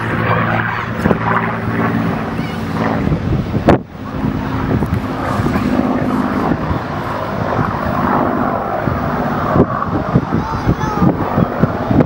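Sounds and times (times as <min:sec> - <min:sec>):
aircraft engine drone: 0:00.0 - 0:12.0
wind noise on microphone: 0:00.0 - 0:12.0.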